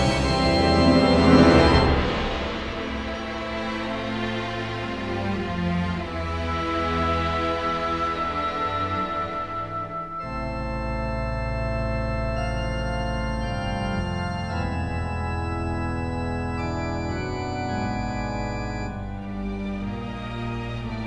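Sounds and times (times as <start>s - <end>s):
music of long held chords: 0.0s - 21.0s.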